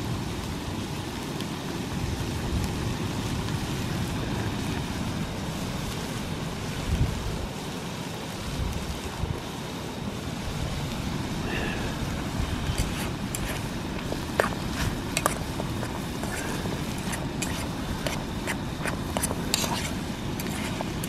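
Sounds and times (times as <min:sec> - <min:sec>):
gas stove hissing: 0:00.0 - 0:21.0
wind buffeting microphone: 0:01.9 - 0:07.7, 0:08.4 - 0:21.0.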